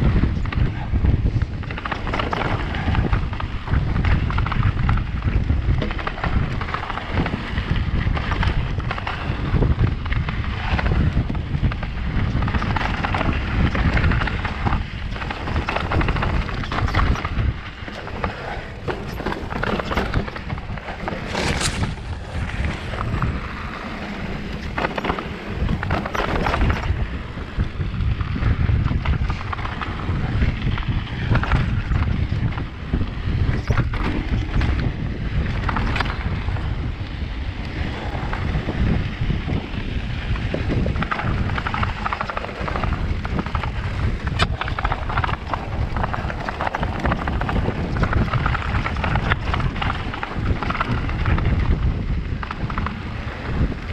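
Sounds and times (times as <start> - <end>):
bike knocking and rattling: 0.0 - 53.9
tyres rolling on rocky trail: 0.0 - 53.9
wind rushing over microphone: 0.0 - 53.9.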